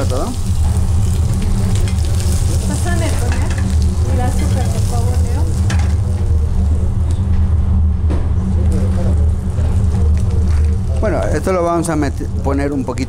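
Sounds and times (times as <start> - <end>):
grapes sizzling in a saucepan: 0.0 - 6.9, 9.4 - 13.0
low kitchen hum: 0.0 - 13.0.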